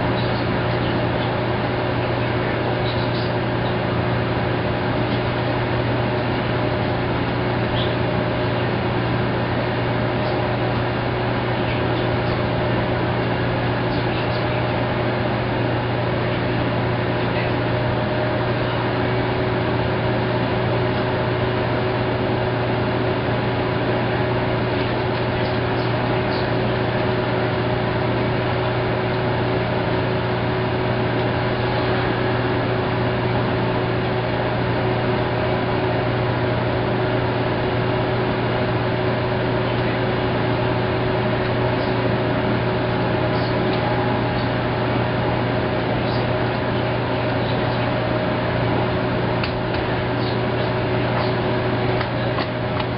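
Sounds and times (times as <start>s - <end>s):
washing machine humming: 0.0s - 52.9s.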